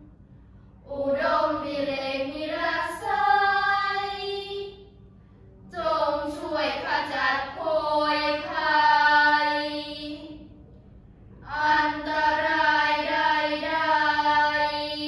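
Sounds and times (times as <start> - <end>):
girls chanting prayers in unison: 0.8 - 5.0, 5.7 - 10.6, 11.4 - 15.0.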